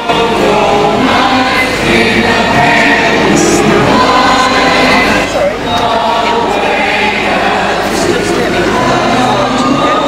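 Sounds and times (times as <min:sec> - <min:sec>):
choir singing: 0:00.0 - 0:10.0.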